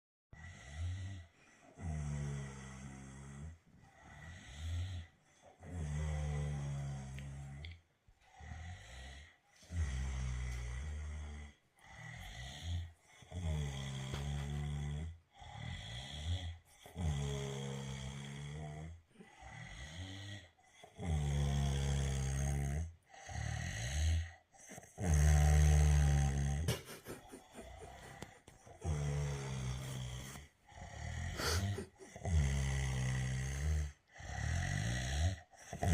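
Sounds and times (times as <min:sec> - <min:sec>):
person snoring loudly: 0:00.4 - 0:35.9.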